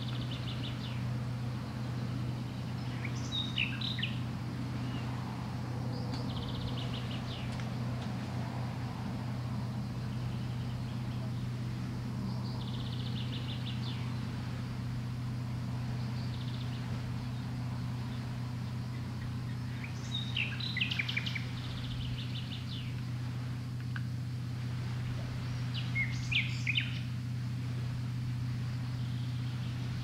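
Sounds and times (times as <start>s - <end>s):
small birds chirping: 0.0s - 8.4s, 9.2s - 24.2s, 24.9s - 30.0s
steady low hum: 0.0s - 30.0s.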